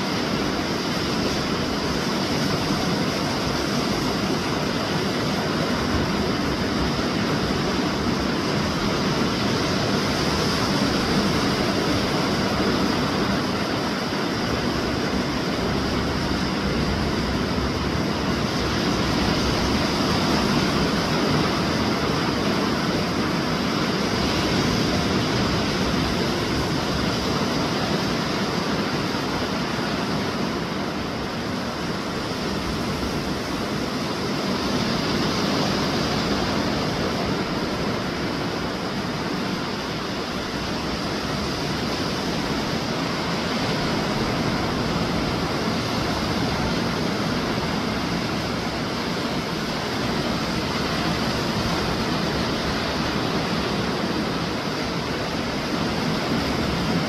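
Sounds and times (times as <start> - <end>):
surf breaking on beach: 0.0 - 57.0
wind rumble on microphone: 0.0 - 57.0.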